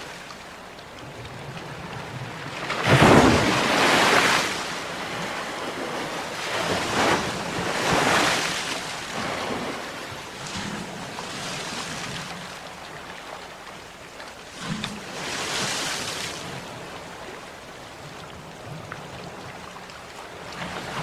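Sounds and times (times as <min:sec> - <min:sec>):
sea waves breaking: 0:00.0 - 0:21.0.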